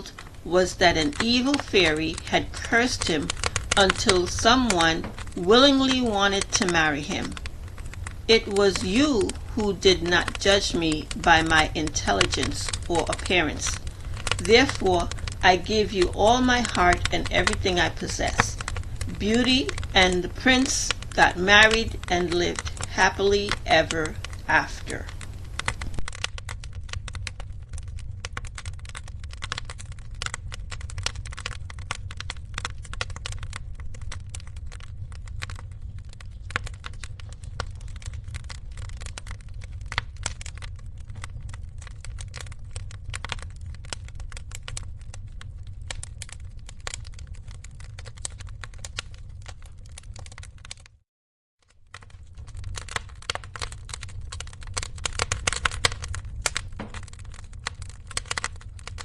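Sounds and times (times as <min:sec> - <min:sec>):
low rumble: 0:00.0 - 0:50.7
wood fire crackling: 0:00.0 - 0:51.0, 0:51.6 - 0:59.0.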